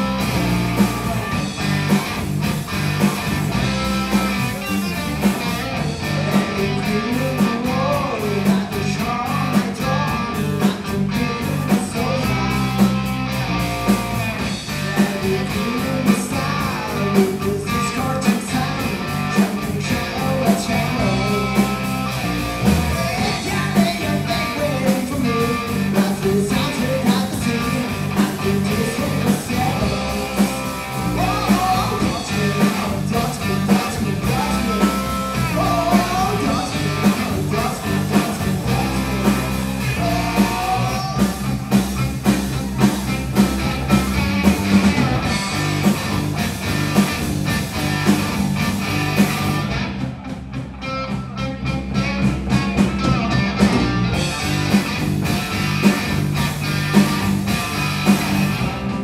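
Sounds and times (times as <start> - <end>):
drum kit beat: 0.0 - 59.0
electric guitars: 0.0 - 59.0.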